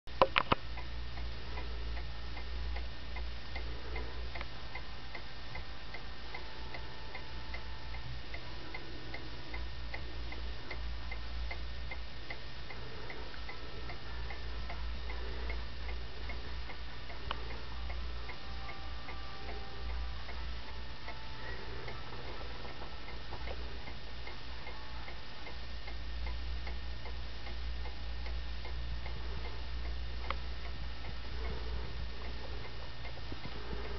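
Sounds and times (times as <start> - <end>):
clock ticking: 0.1 - 33.9.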